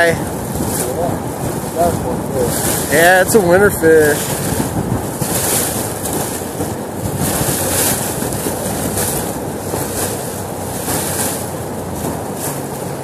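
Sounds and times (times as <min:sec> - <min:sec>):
river current rushing: 0:00.0 - 0:13.0
wind buffeting microphone: 0:00.0 - 0:13.0.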